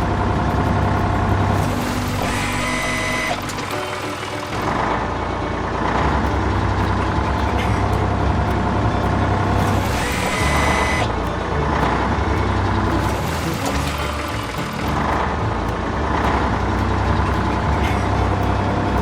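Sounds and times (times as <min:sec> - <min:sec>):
background music: 0:00.0 - 0:19.0
cartoon truck engine rumble: 0:00.0 - 0:19.0.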